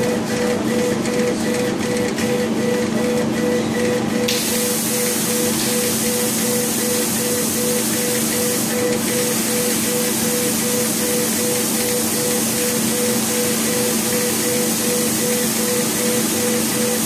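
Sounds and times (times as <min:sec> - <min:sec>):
laser engraver hissing and humming: 0:00.0 - 0:17.0.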